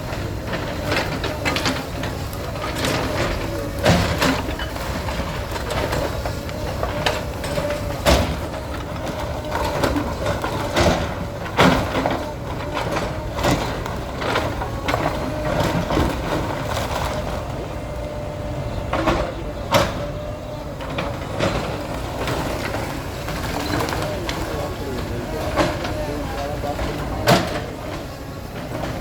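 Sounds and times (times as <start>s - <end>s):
bulldozer engine whining: 0.0s - 29.0s.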